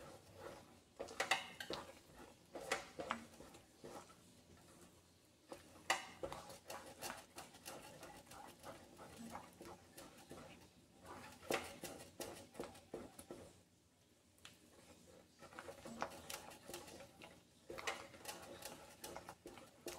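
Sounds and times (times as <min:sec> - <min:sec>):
spatula scraping metal pot: 0:00.0 - 0:13.6, 0:14.8 - 0:19.9
soft wet squelches: 0:00.0 - 0:19.9.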